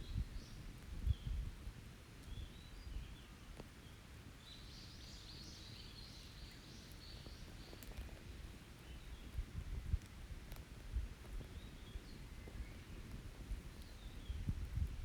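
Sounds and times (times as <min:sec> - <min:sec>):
campfire crackles: 0:00.3 - 0:15.0.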